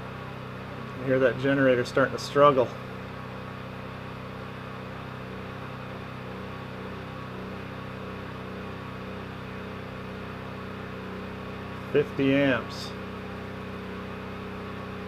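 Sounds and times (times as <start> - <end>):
generator droning under load: 0.0 - 15.0.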